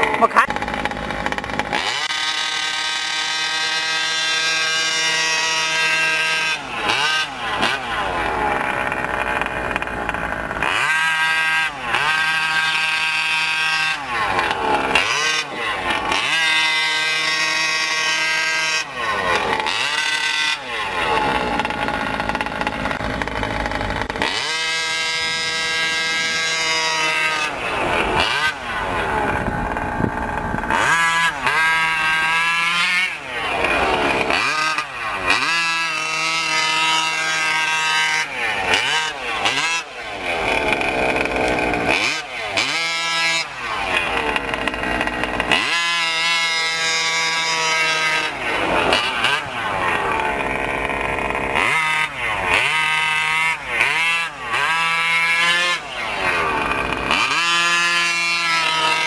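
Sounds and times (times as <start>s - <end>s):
small two-stroke engine revving: 0.0s - 59.0s.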